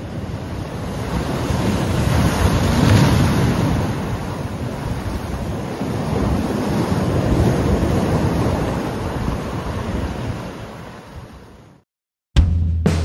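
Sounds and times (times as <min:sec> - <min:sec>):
wind rumbling on microphone: 0:00.0 - 0:11.8
surf breaking on rocks: 0:00.2 - 0:10.6.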